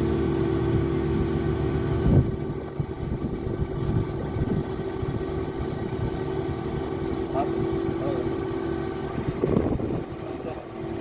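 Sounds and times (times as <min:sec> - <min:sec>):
engine running loud: 0:00.0 - 0:11.0.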